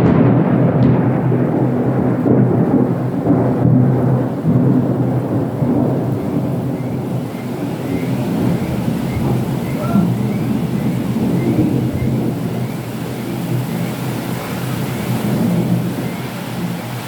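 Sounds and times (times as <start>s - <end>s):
rain: 0.0s - 17.0s
thunder rumbling: 0.0s - 17.0s.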